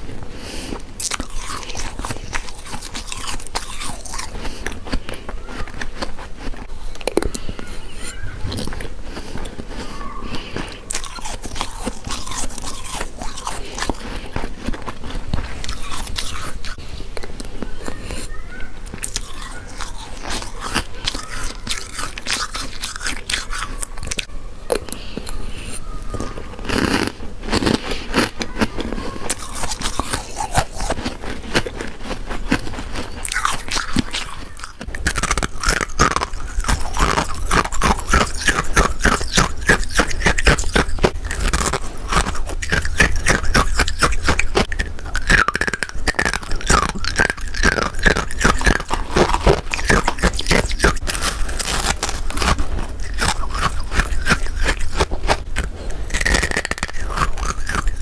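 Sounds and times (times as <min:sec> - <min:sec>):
chewing crunchy frost: 0:00.0 - 0:25.8, 0:26.6 - 0:58.0.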